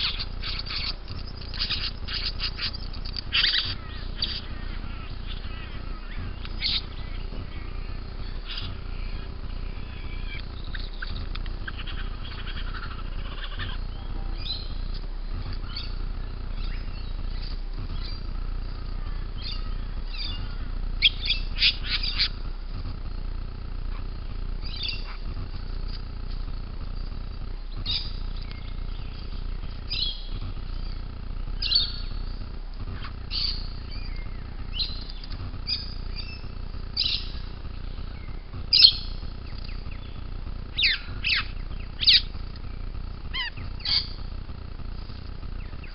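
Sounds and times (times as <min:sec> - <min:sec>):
birds chirping: 0:00.0 - 0:45.9
steady low hum: 0:00.0 - 0:45.9.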